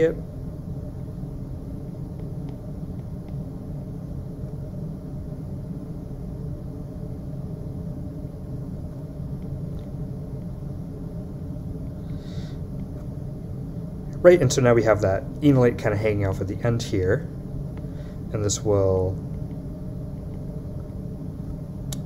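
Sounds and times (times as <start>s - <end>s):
low hum and rumble: 0.0s - 22.0s.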